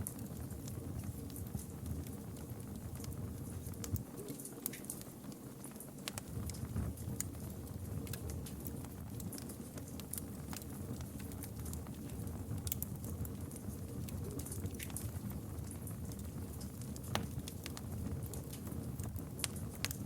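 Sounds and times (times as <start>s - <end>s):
campfire crackling and popping: 0.0s - 20.0s
low rumble of flames: 0.0s - 20.0s.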